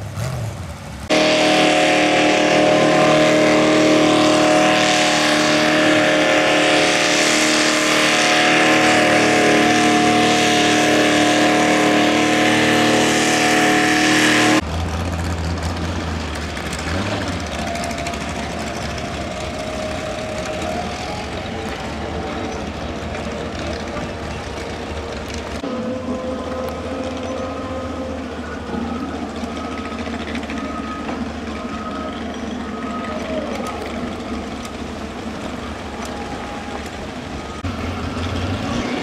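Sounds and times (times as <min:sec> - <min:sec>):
low diesel rumble: 0:00.0 - 0:39.0
tractor engine running loud: 0:00.7 - 0:39.0.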